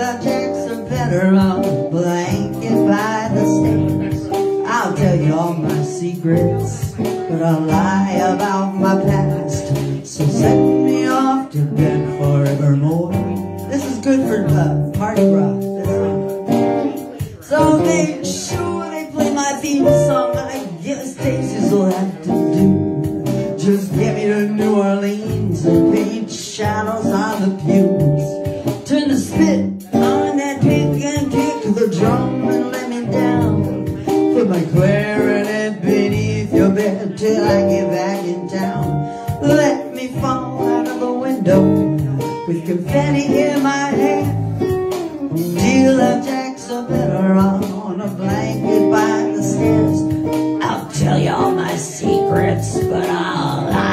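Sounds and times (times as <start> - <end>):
acoustic guitar strummed: 0.0 - 53.9
man singing: 0.0 - 53.9.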